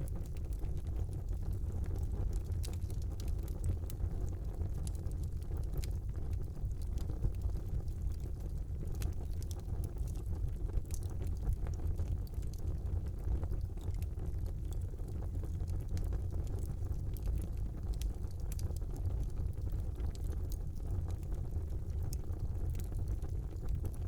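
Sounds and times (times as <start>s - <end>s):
fire crackling and popping: 0.0s - 24.0s
fire rumbling: 0.0s - 24.0s.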